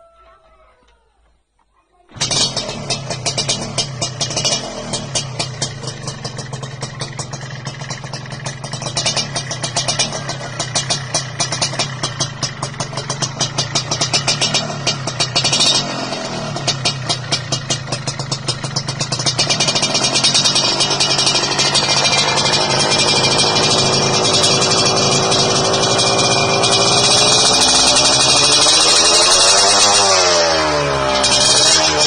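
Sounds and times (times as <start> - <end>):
motorcycle engine revving: 2.1 - 32.0.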